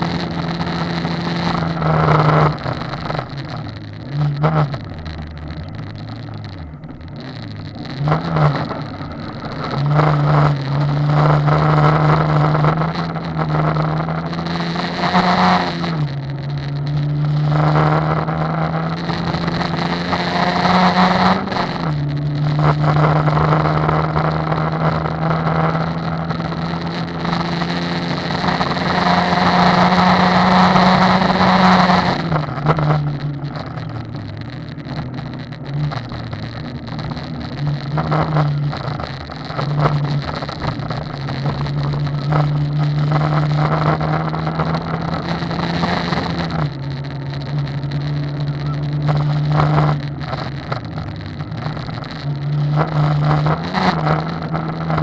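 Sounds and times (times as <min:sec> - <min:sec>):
car engine accelerating: 0:00.0 - 0:55.0
tyres rumbling on gravel: 0:00.0 - 0:55.0.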